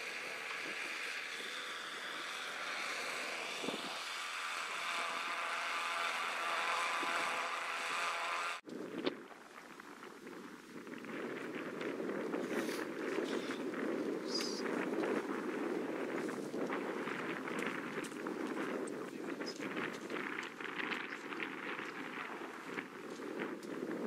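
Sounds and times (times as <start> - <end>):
gusty wind rumble: 0.0 - 7.5, 8.6 - 24.0
strong wind on microphone: 0.0 - 8.0, 8.6 - 24.0.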